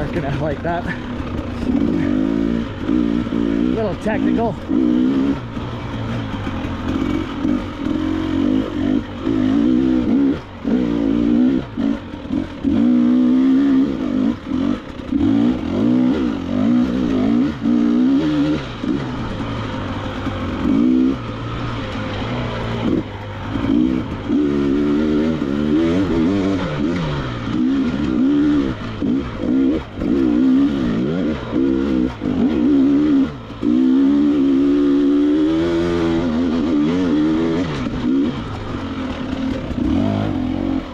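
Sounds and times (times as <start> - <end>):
two-stroke dirt bike engine revving: 0.0 - 40.9.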